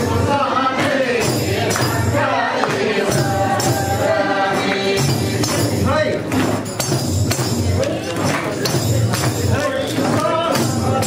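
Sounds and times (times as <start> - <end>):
group of voices singing: 0.0 - 6.6, 7.6 - 11.0
frame drums beating: 0.0 - 11.0.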